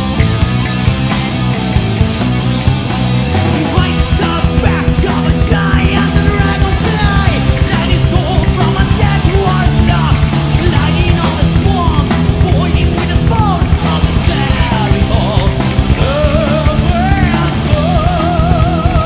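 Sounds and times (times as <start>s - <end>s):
heavy metal band playing live: 0.0s - 19.0s
man singing: 3.6s - 19.0s.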